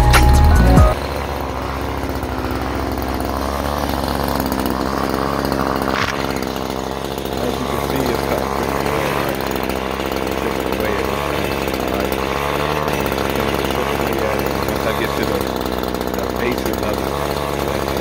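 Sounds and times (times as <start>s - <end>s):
chainsaw running: 0.0s - 18.0s.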